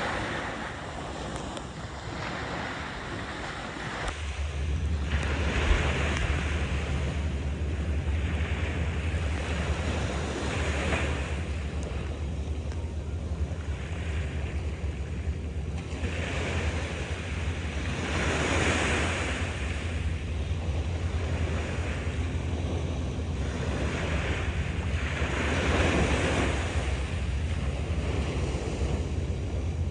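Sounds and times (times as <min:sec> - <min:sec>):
sea waves washing onto shore: 0:00.0 - 0:29.9
wind rumble on microphone: 0:00.0 - 0:29.9.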